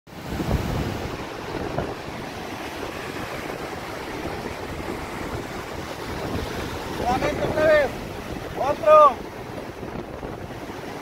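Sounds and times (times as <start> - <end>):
waves breaking on beach: 0.1 - 11.0
wind buffeting microphone: 0.1 - 11.0.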